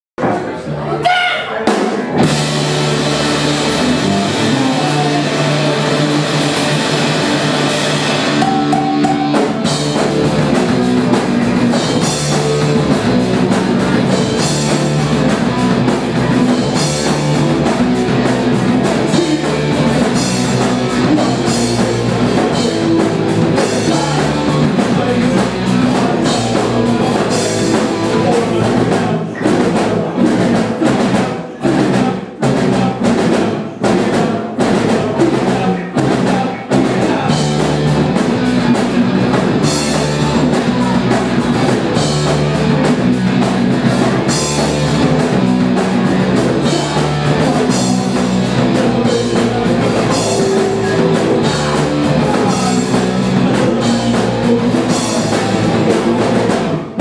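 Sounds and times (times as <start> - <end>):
rock band playing live: 0.2 - 57.0.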